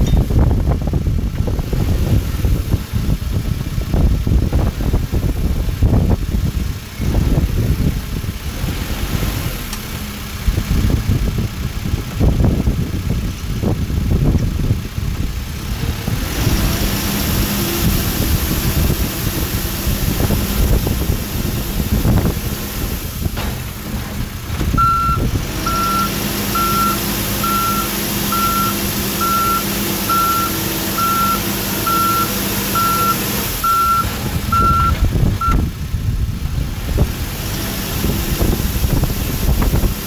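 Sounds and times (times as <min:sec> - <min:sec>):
wind buffeting microphone: 0:00.0 - 0:26.0, 0:33.7 - 0:40.0
backhoe diesel engine running: 0:00.0 - 0:40.0.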